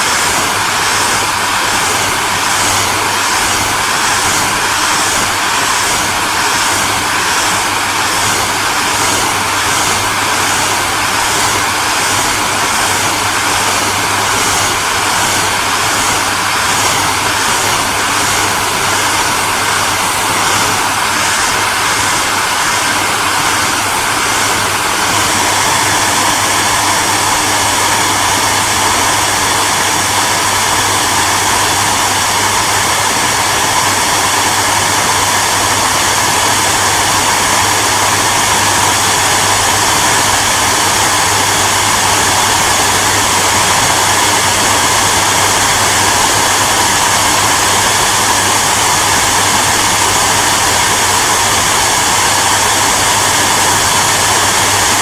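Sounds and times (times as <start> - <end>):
hairdryer running: 0.0 - 55.0.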